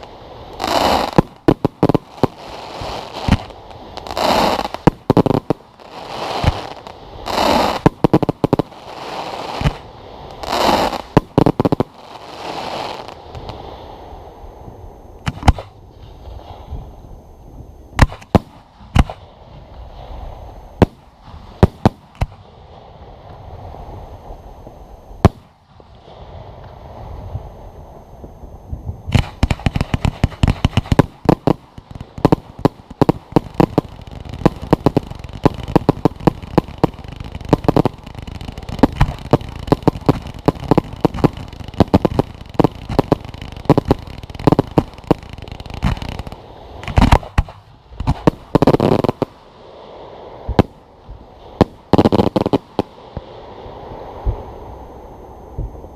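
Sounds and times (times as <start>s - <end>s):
fireworks bangs and crackles: 0.0s - 14.0s, 14.6s - 16.9s, 17.6s - 54.5s
loud firework bursts: 0.0s - 16.8s, 17.9s - 55.0s.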